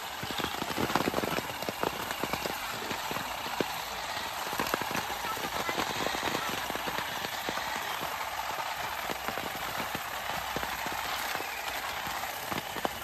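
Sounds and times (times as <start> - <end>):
olives and twigs clicking on tarp: 0.0 - 13.0
rustle of shaken foliage: 0.0 - 13.0.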